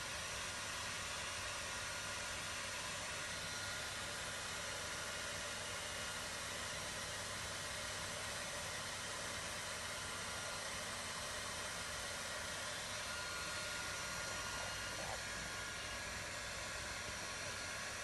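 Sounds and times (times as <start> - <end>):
hair dryer running: 0.0 - 18.0.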